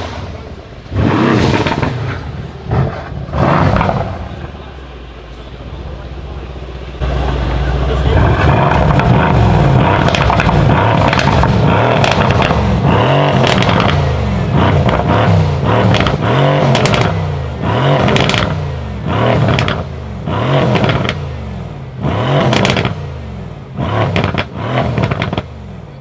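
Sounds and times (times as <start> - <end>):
exhaust crackles and pops: 0.0 - 5.5, 8.0 - 21.4, 22.4 - 23.0, 23.8 - 25.6
car engine revving: 0.0 - 26.0.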